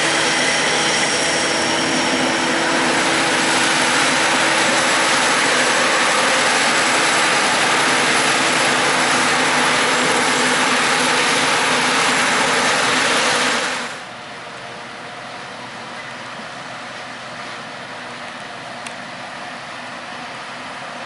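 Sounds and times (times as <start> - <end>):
diesel farm machinery running: 0.0 - 21.0.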